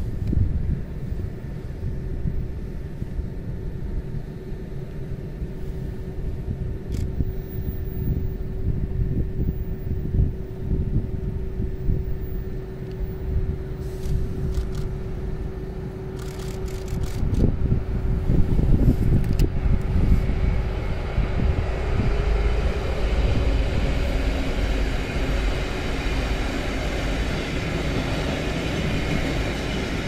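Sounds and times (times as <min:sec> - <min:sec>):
distant diesel locomotive drone: 0:00.0 - 0:30.0
wind rumble on microphone: 0:00.0 - 0:30.0.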